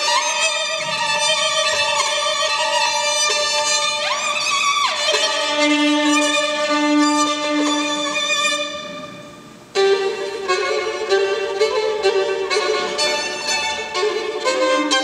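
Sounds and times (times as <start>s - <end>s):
violin playing classical music: 0.0s - 15.0s.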